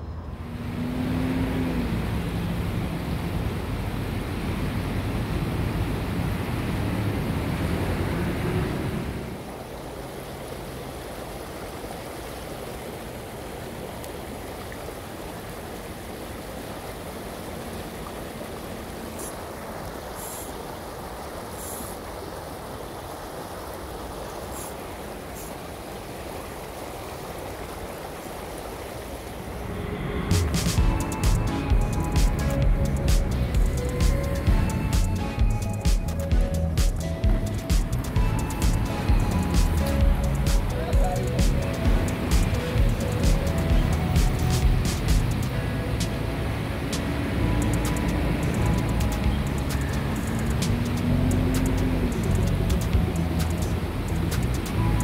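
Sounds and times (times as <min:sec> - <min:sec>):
creek water rushing over rocks: 0:00.4 - 0:55.0.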